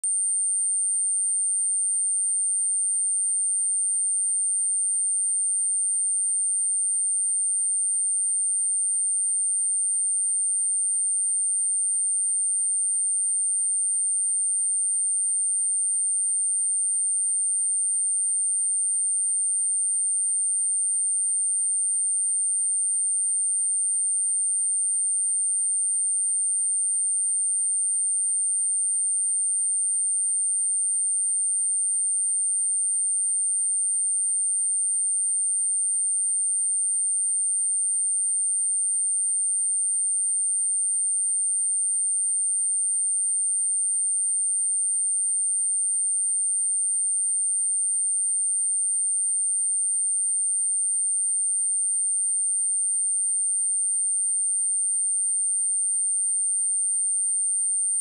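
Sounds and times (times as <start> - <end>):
high-pitched sine test tone: 0.0 - 58.0.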